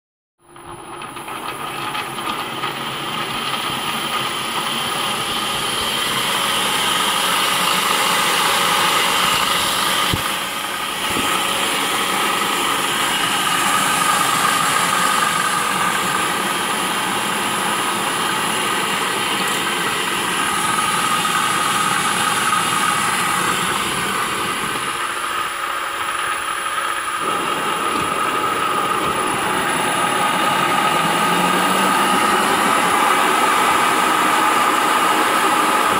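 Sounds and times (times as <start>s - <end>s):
gearbox and motor whining: 0.6s - 35.9s.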